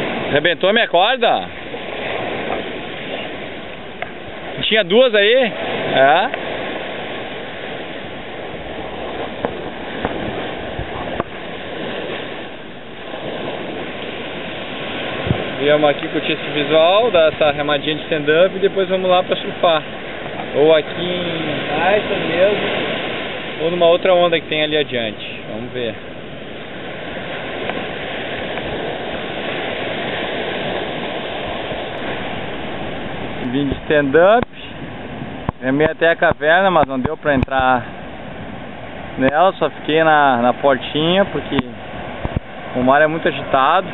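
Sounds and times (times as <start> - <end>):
surf washing on beach: 0.0 - 43.9.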